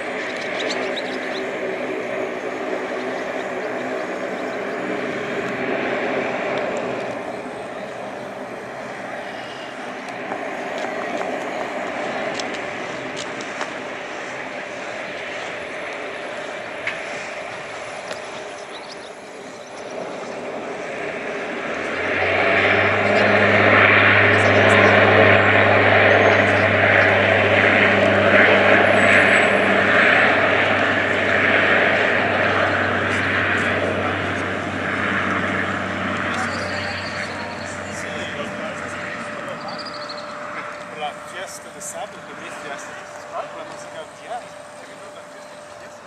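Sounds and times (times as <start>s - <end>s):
low hum: 0.0s - 46.0s
turboprop engines droning: 0.0s - 46.0s.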